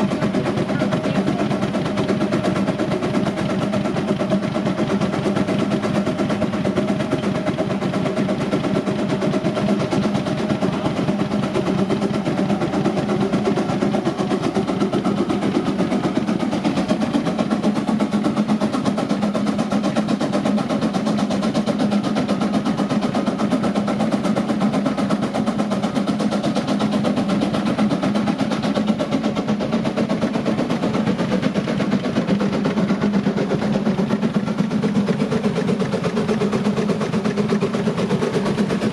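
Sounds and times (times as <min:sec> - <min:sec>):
steam engine exhaust beating: 0:00.0 - 0:38.9.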